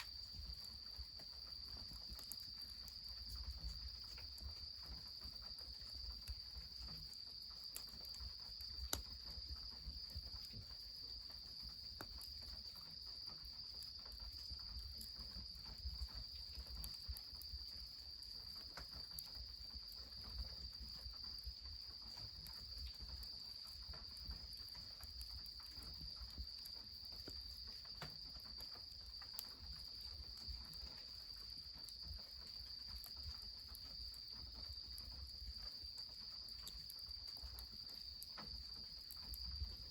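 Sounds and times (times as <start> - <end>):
insects chirring: 0.0 - 39.9
wood fire crackling: 0.0 - 39.9.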